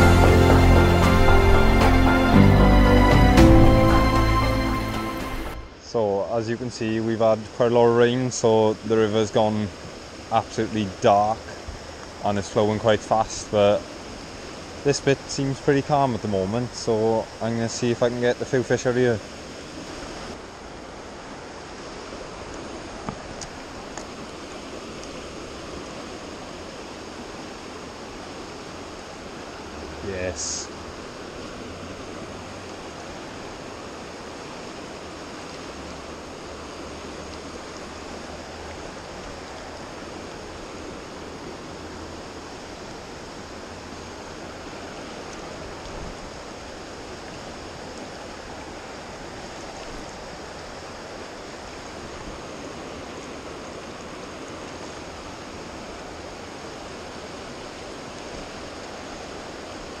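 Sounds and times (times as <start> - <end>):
river water rushing over riffles: 0.0 - 60.0.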